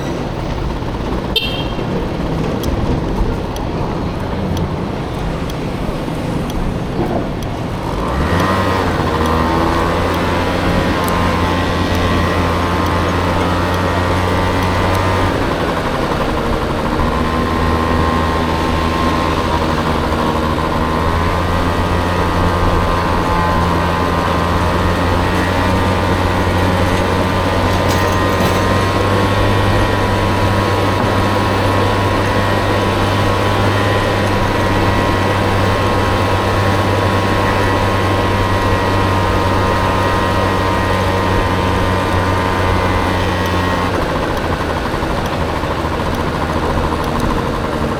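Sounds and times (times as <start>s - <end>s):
road and wind noise: 0.0s - 47.9s
scooter engine humming: 0.0s - 47.9s.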